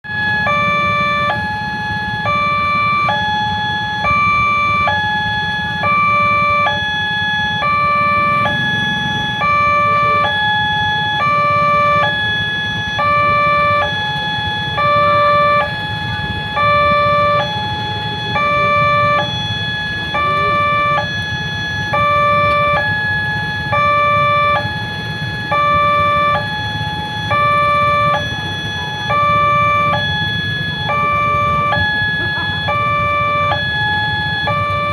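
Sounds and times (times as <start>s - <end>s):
two-tone crossing alarm: 0.0s - 34.9s.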